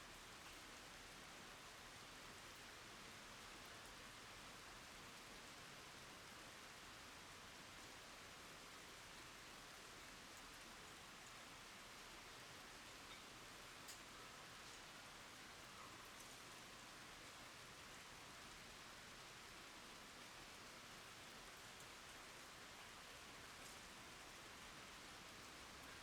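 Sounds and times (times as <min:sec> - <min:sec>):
soft rain on wooden boards: 0:00.0 - 0:26.0.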